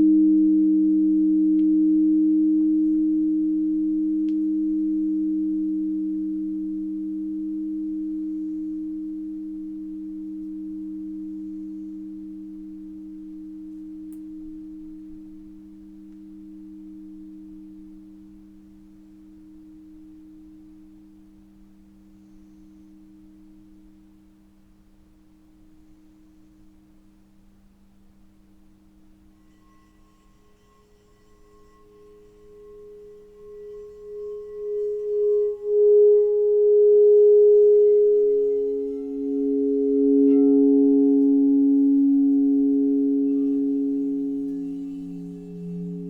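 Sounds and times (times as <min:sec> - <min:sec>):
pure ringing tones: 0:00.0 - 0:24.5, 0:29.2 - 0:46.0.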